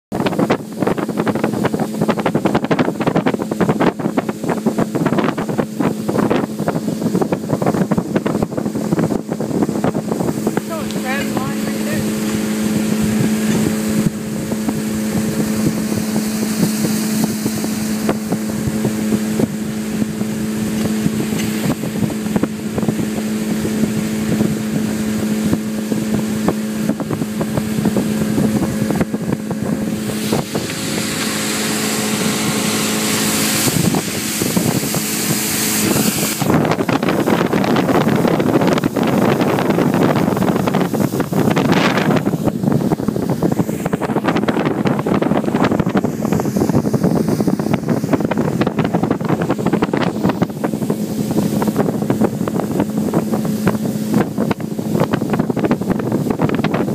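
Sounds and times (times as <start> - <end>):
rush of wind and water: 0.0 - 56.9
speedboat engine running: 0.1 - 56.9
wind buffeting microphone: 0.1 - 56.9.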